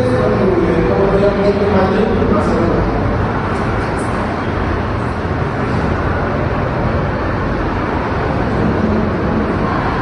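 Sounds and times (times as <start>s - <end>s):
loud low rumbling: 0.0s - 10.0s.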